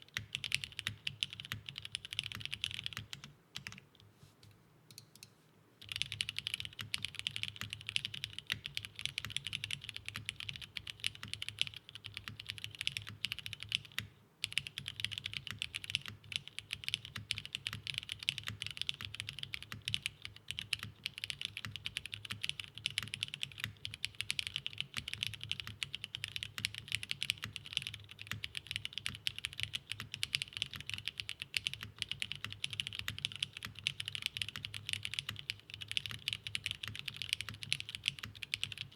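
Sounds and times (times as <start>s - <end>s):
fast typing on mechanical keyboard: 0.2s - 3.8s, 5.8s - 38.9s.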